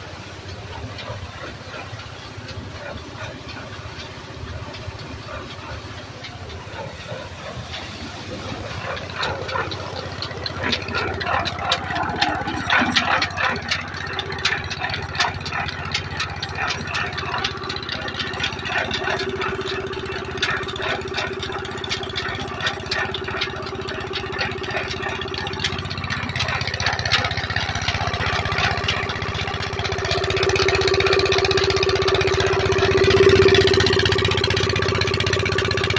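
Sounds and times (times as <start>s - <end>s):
stationary engine knocking: 0.0s - 35.9s.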